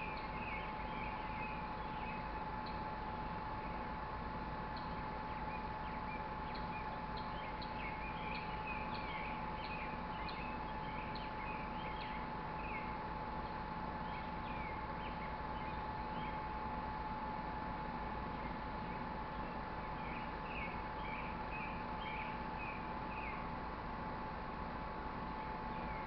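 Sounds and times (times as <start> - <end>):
small birds chirping: 0.0 - 3.9, 4.6 - 23.8, 25.2 - 26.0.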